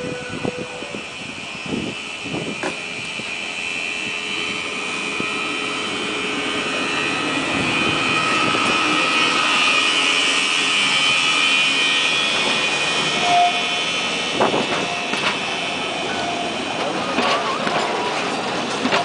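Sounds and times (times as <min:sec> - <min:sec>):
electric train whine: 0:00.0 - 0:19.0
train running gear rumble: 0:00.0 - 0:19.0.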